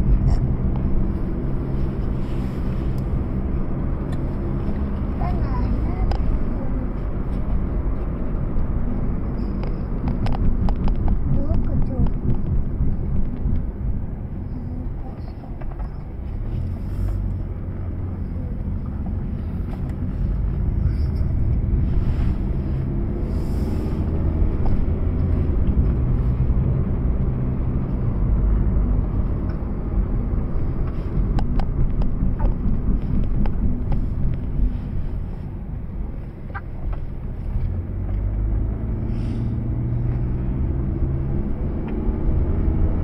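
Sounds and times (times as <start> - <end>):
car engine running: 0.0 - 43.0
tyre and road rumble: 0.0 - 43.0.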